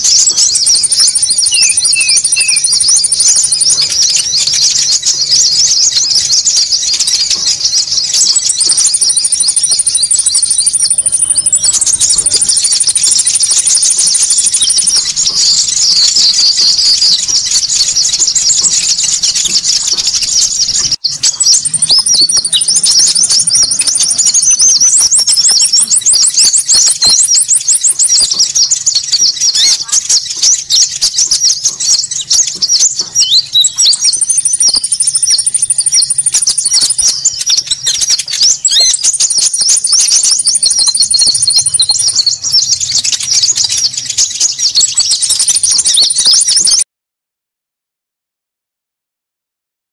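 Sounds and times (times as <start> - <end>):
fast bird trill: 0.0 - 46.8
small birds chattering and chirping: 0.0 - 46.8.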